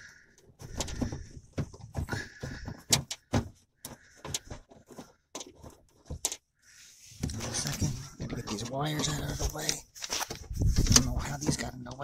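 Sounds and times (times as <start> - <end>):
plastic parts clicking and knocking: 0.3 - 6.5, 7.2 - 12.0.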